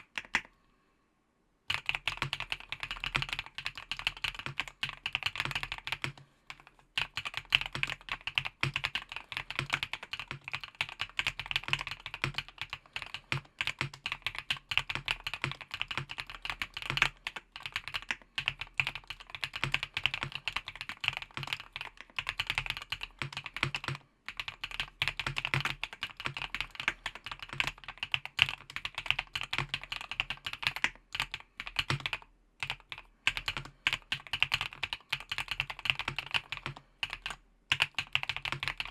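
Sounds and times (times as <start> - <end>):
fast typing on mechanical keyboard: 1.7 - 38.9.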